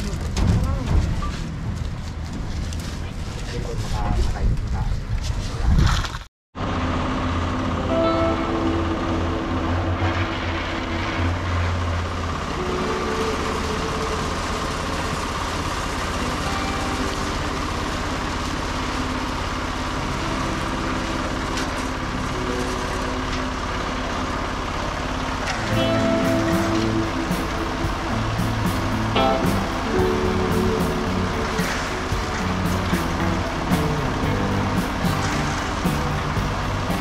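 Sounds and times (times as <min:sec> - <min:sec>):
concrete mixer engine running: 0:06.6 - 0:37.0.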